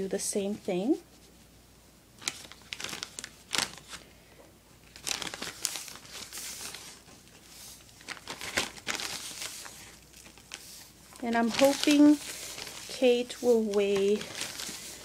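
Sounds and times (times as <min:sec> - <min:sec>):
plastic bag crinkling: 0:02.2 - 0:04.0, 0:04.8 - 0:15.0.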